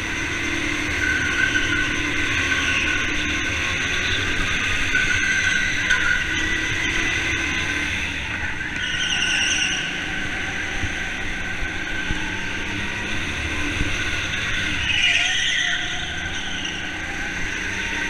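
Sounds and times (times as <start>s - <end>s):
go-karts racing: 0.0s - 18.0s.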